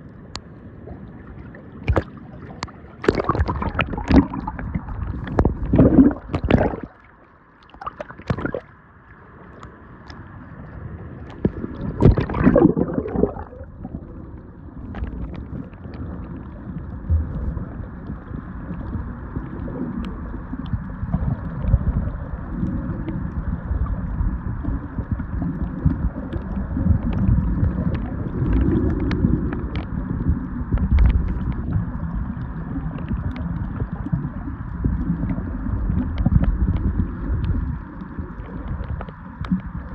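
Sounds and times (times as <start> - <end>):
muffled underwater rushing: 0.0 - 39.9
water splashing and sloshing: 0.0 - 39.9.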